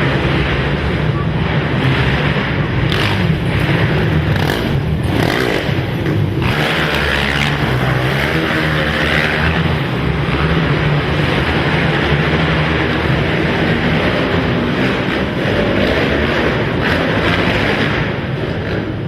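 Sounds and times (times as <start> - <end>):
quad engines revving: 0.0 - 19.0.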